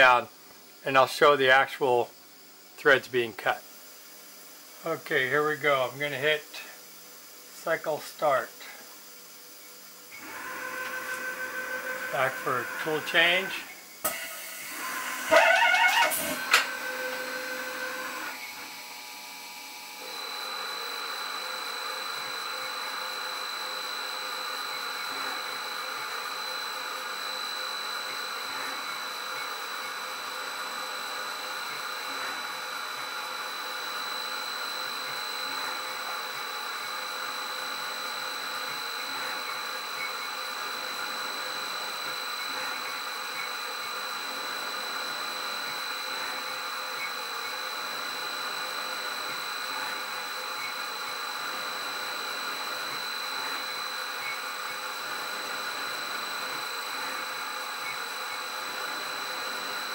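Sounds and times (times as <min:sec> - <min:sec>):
lathe spindle whine: 0:07.6 - 0:59.9
machine running noise: 0:09.8 - 0:59.9.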